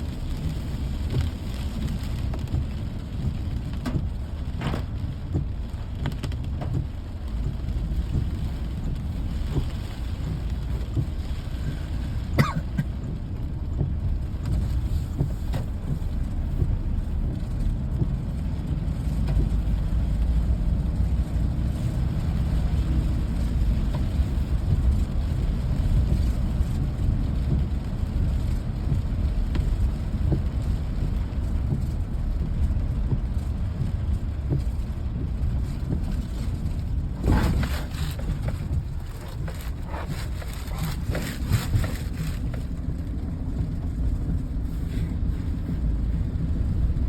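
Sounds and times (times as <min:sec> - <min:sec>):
rain low rumble: 0:00.0 - 0:47.0.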